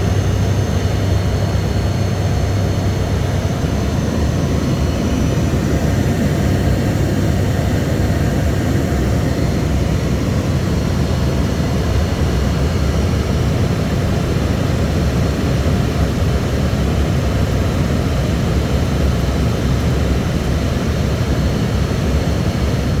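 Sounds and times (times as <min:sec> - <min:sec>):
faint high engine whine: 0:00.0 - 0:23.0
turboprop engine drone in cabin: 0:00.0 - 0:23.0.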